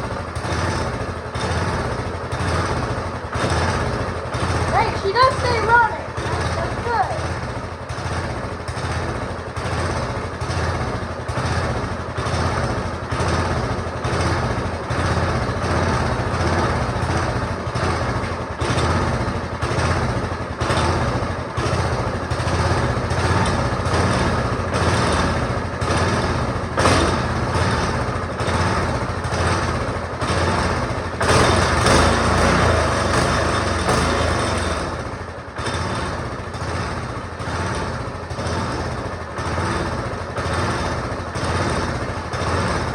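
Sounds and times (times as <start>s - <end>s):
go-kart engine running: 0.0s - 42.9s.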